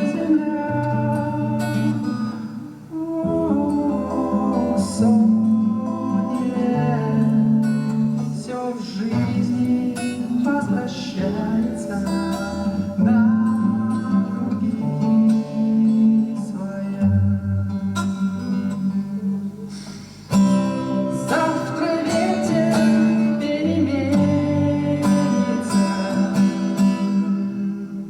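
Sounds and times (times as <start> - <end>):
man singing: 0.0 - 17.8, 21.0 - 28.0
acoustic guitar: 0.0 - 28.0.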